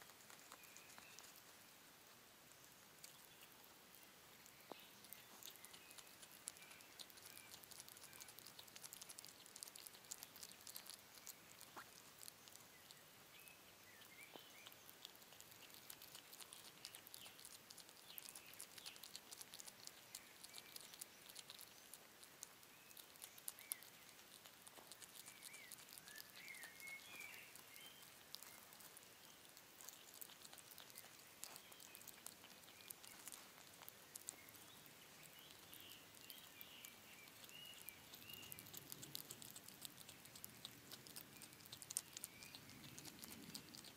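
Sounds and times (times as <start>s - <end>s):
hedgehog chewing: 0.0s - 43.9s.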